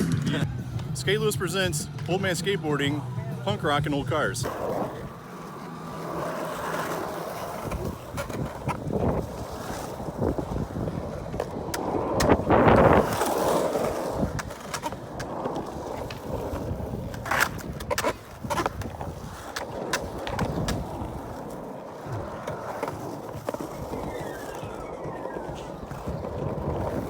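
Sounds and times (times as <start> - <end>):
skateboard wheels rolling on concrete: 0.0 - 27.0
skateboard clacks: 1.9 - 27.0.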